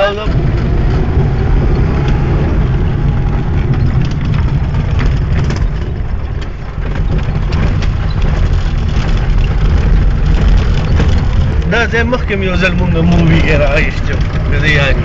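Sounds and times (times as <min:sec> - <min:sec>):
knocks and rattles from ride: 0:00.0 - 0:15.0
vehicle engine rumbling: 0:00.0 - 0:15.0.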